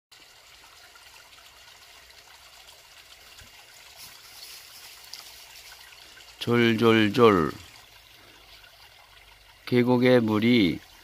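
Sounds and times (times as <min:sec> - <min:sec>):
stream trickling over rocks: 0:00.1 - 0:11.0.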